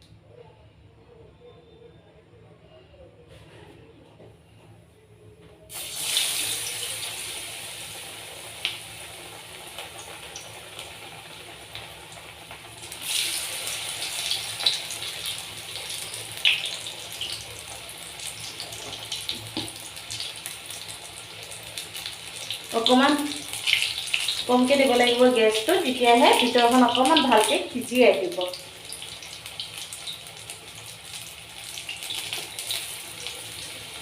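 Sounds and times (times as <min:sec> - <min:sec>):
food sizzling in hot oil: 0:05.7 - 0:34.0.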